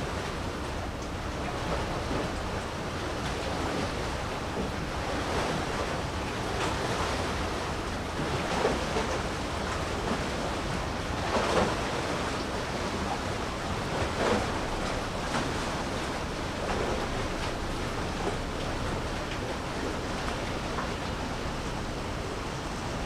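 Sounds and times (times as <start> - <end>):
sea waves splashing: 0.0 - 23.0.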